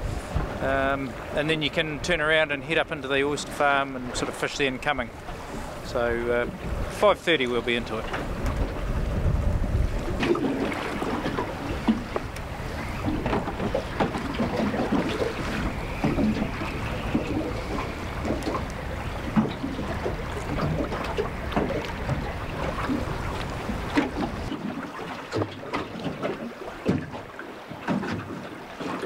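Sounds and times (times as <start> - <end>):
wind buffeting microphone: 0.0 - 27.4
water slapping metal boat hull: 0.0 - 29.0.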